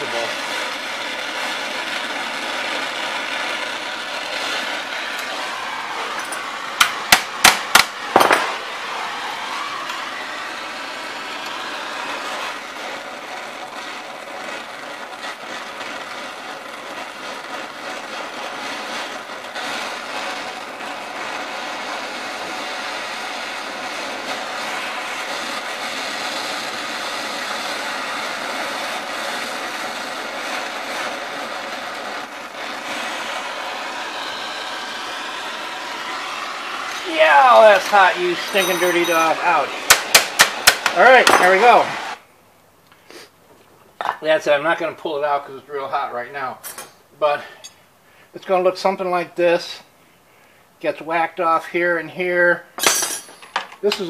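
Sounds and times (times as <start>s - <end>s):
torch flame hissing: 0.0s - 42.3s, 43.0s - 46.6s.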